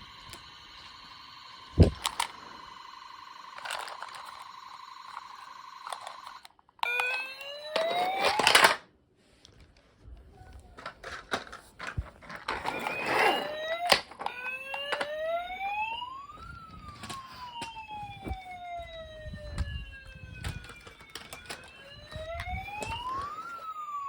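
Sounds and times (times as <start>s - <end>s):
electronic alarm tone: 0.0s - 8.4s, 12.6s - 24.0s
electronic siren wail: 0.0s - 8.7s, 12.5s - 24.0s.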